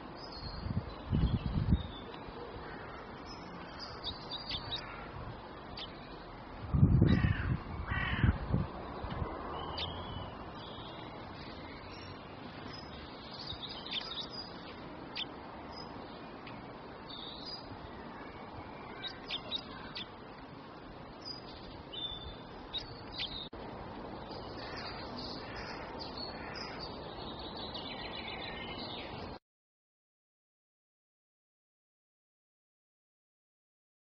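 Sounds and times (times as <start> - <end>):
background hiss: 0.0 - 29.4
small songbirds chirping: 0.0 - 29.4.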